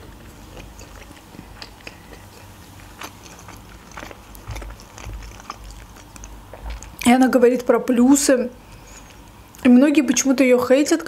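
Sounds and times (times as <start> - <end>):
chewing sticky food: 0.0 - 7.7, 8.6 - 10.3.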